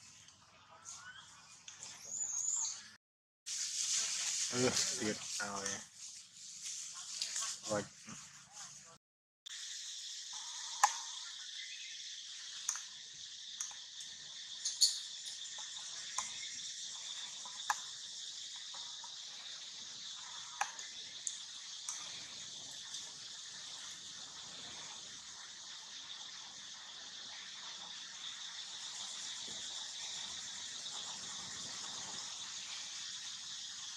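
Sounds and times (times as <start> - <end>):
forest insects droning: 3.6 - 7.8, 9.5 - 33.9.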